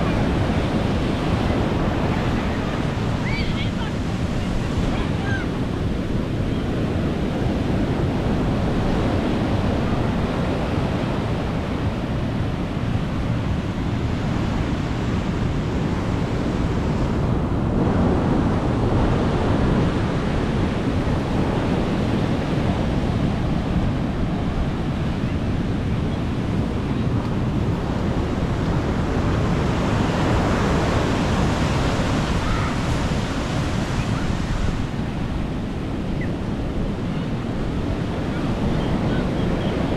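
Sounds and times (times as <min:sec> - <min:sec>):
sea waves breaking on a beach: 0:00.0 - 0:39.9
wind buffeting microphone: 0:00.0 - 0:39.9.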